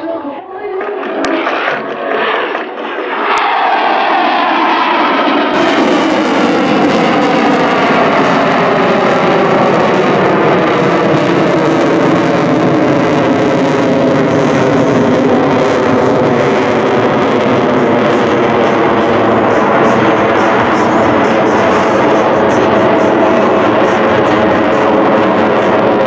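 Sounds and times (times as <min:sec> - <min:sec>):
jet engines in afterburner: 0:00.9 - 0:26.0.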